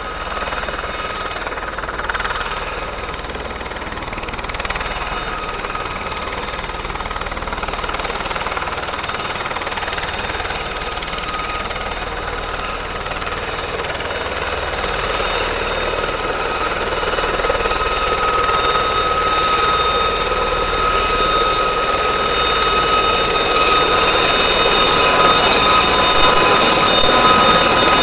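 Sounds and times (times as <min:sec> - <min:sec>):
helicopter rotor noise: 0:00.0 - 0:28.0
helicopter turbine whine: 0:00.0 - 0:28.0.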